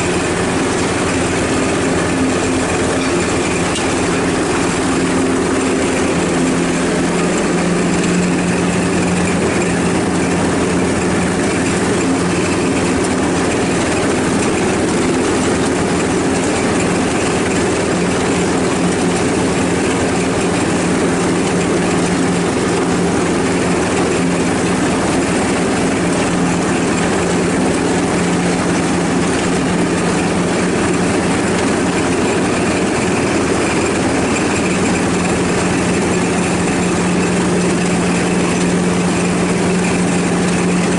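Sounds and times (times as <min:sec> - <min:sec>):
ride-on lawnmower engine: 0:00.0 - 0:40.9.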